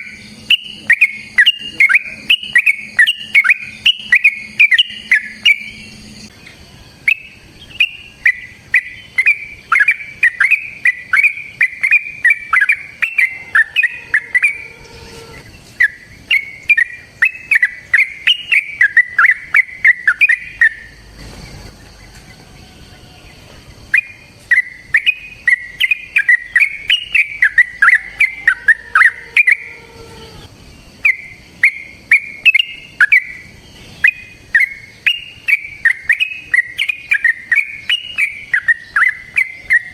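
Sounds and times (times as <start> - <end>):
bird singing quick chirps: 0.0 - 22.1, 23.9 - 29.8, 30.7 - 39.9.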